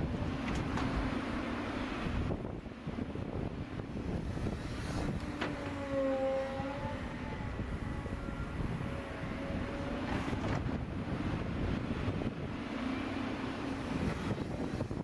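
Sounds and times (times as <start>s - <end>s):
excavator diesel engine: 0.0s - 15.0s
wind on microphone: 0.0s - 15.0s
high hydraulic whine: 0.4s - 15.0s.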